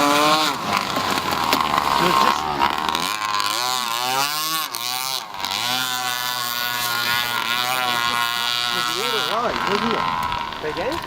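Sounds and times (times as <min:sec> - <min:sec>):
two-stroke boat engine buzzing: 0:00.0 - 0:11.0.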